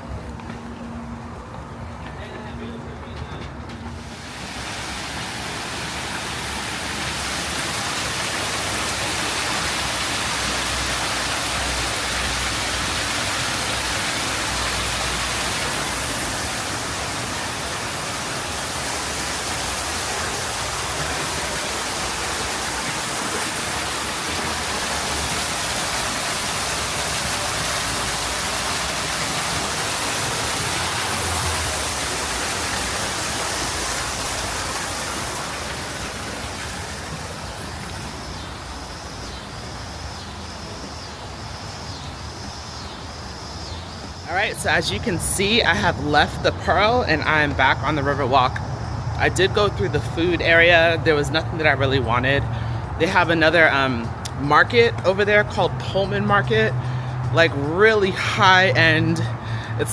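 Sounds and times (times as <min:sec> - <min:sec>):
rush of falling water: 0:04.0 - 0:59.9.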